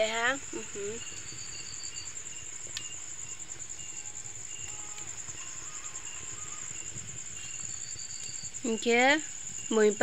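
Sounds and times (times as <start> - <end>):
crickets trilling: 0.0 - 10.0
insects chirping: 0.0 - 10.0.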